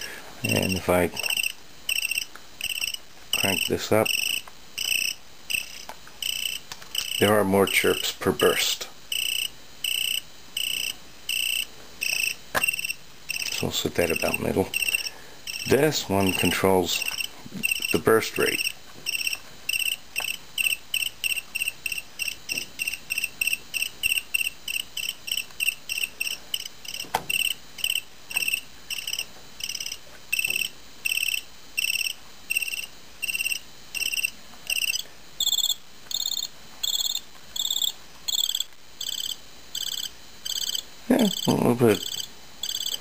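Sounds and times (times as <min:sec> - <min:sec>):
electronic cricket chirps: 0:00.0 - 0:43.0.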